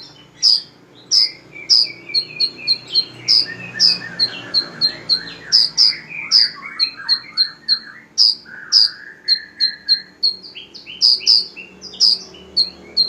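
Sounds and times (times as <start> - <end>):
high chip notes of songbirds: 0.0 - 13.0
warbled bird phrases: 0.0 - 13.0.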